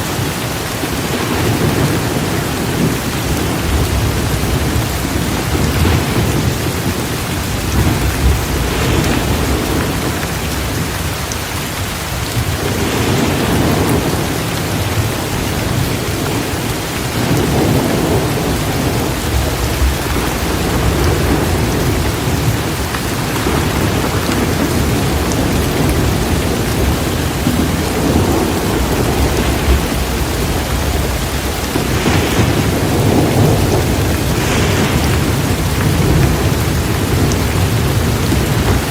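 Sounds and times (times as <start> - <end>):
heavy rain: 0.0 - 38.9
thunder rumbling: 0.0 - 38.9.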